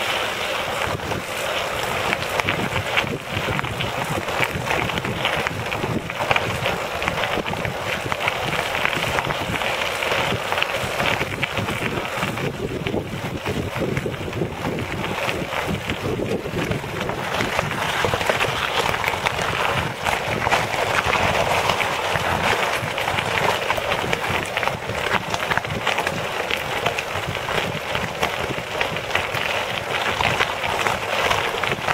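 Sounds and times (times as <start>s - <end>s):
tyres crackling over gravel: 0.0s - 31.9s
wind noise on microphone: 0.0s - 31.9s.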